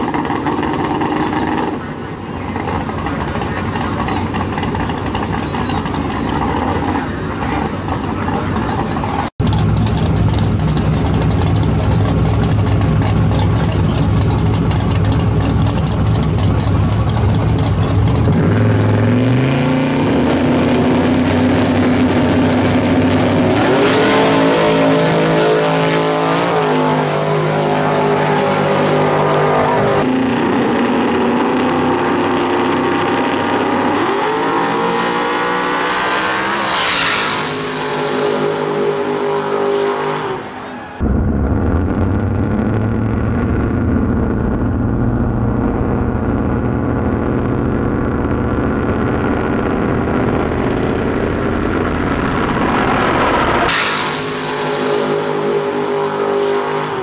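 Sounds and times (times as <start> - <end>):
race car engines revving: 0.0 - 41.2, 41.8 - 57.0.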